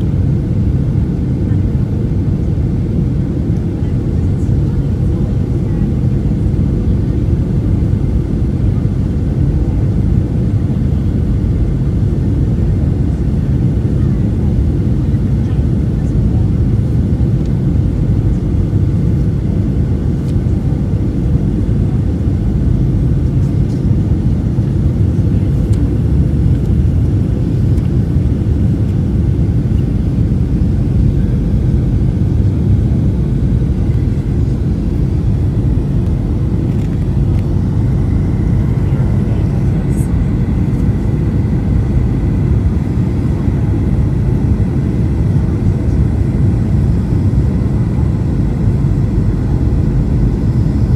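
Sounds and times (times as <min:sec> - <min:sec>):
jet engine rumble: 0:00.0 - 0:50.9.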